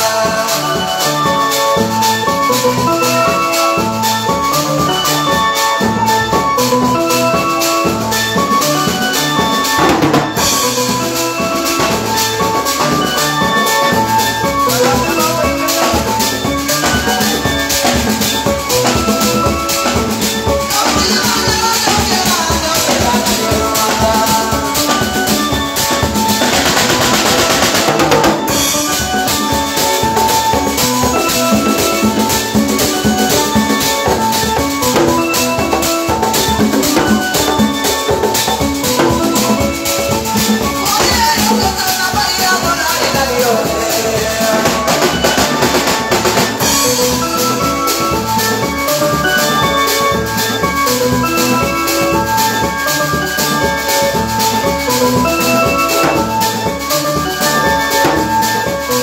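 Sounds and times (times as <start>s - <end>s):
drum rhythm: 0.0s - 59.0s
electronic keyboard melody: 0.0s - 59.0s.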